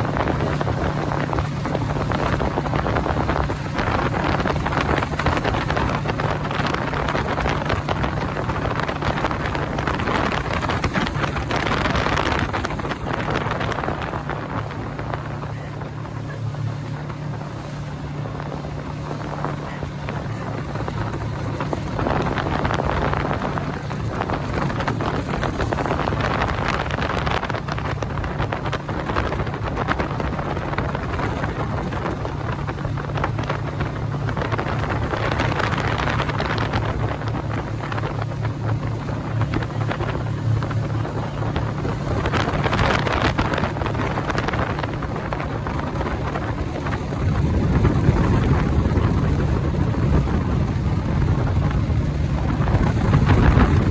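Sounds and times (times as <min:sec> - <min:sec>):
motorboat engine running: 0:00.0 - 0:53.9
rushing air and water: 0:00.0 - 0:53.9
wind buffeting microphone: 0:00.0 - 0:53.9.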